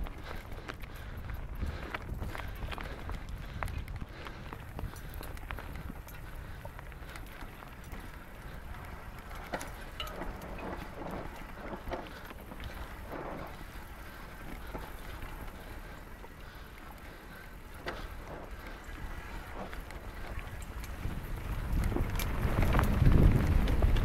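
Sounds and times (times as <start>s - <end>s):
bike clicks and rattles: 0.0s - 24.0s
bike tyres crunching on gravel: 0.0s - 24.0s
wind rumbling on microphone: 0.0s - 24.0s.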